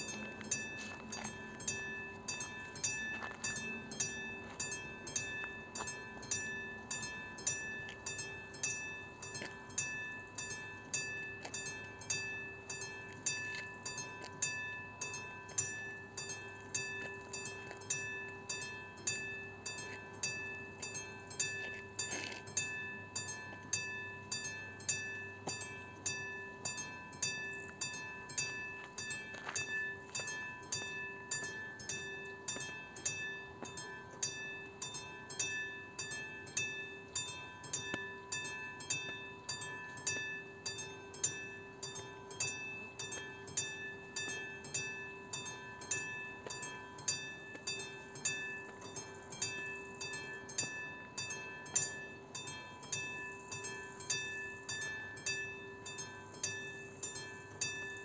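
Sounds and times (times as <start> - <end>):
level crossing bell ringing: 0.0 - 58.0.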